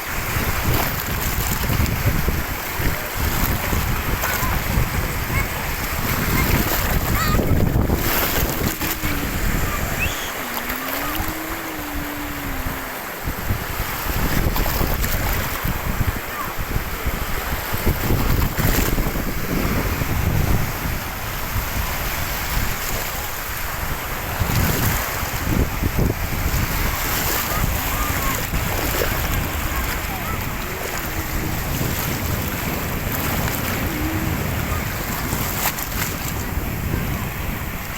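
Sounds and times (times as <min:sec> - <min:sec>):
sea waves rushing: 0:00.0 - 0:37.9
wind buffeting microphone: 0:00.0 - 0:37.9.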